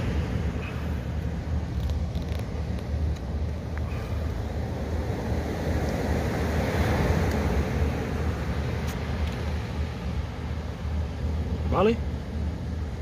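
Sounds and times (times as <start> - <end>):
surf washing: 0.0 - 13.0
wind rumble on microphone: 0.0 - 13.0.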